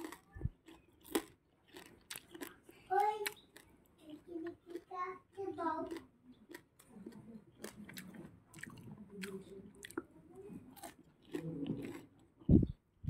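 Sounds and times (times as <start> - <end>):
crunchy chewing: 0.0 - 12.6.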